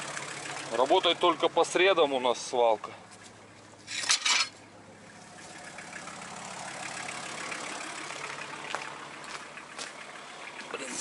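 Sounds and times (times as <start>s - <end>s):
minivan engine idling: 0.0s - 11.0s.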